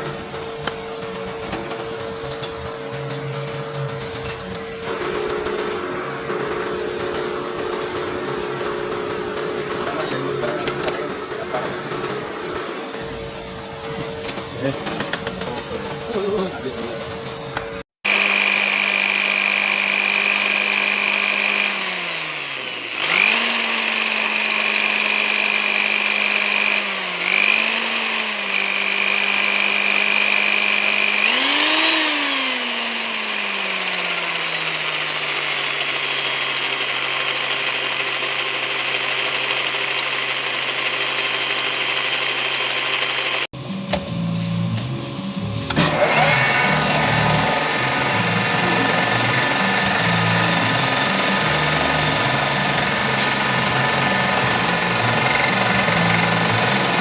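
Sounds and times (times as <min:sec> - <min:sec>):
power tool motor running: 0:00.0 - 0:57.0.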